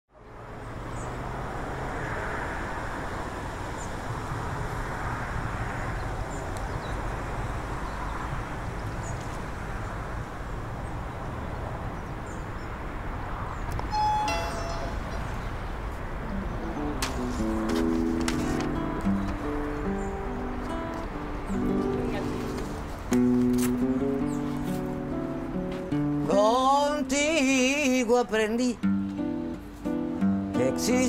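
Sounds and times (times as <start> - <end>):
distant traffic: 0.1 - 31.0.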